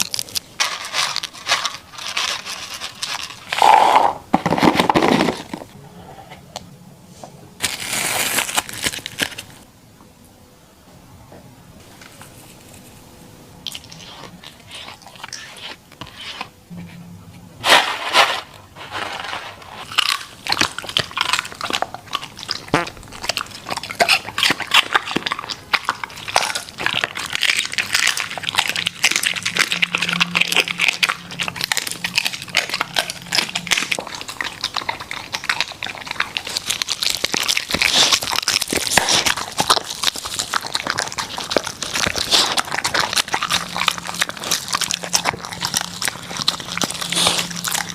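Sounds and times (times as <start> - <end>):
dog eating and crunching: 0.0 - 5.7, 13.6 - 16.5, 17.7 - 47.9.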